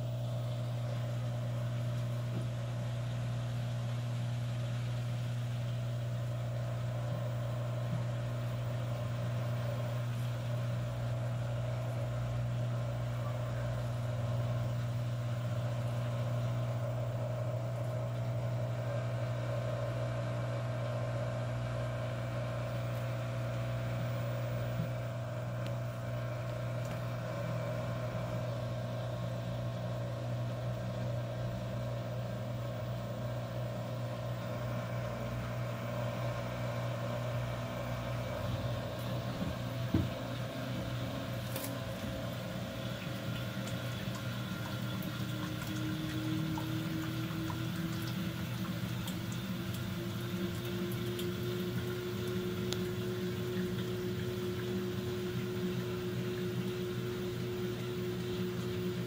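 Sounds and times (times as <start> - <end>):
washing machine motor humming: 0.0 - 59.0.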